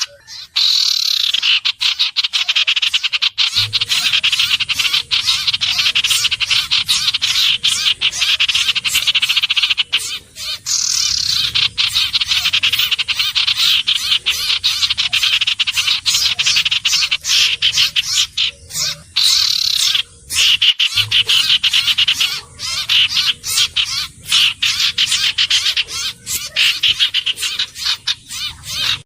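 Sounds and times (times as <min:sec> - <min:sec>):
bird calling rapid high notes: 0:00.0 - 0:29.0.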